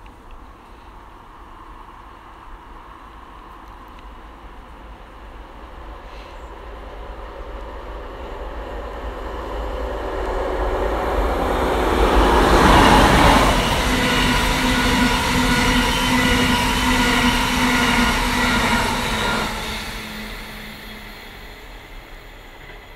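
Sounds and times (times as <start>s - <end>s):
train hum: 0.0s - 22.9s
train passing: 0.0s - 22.9s.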